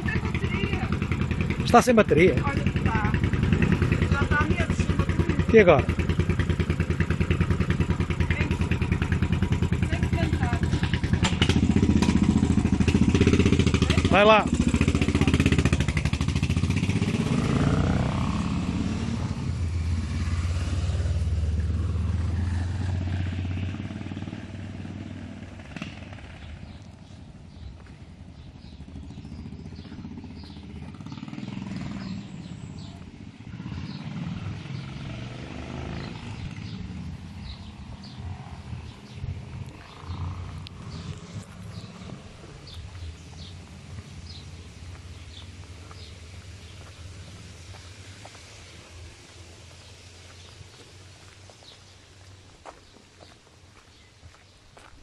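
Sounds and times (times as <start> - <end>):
motorcycle engine pulling away: 0.0 - 54.1.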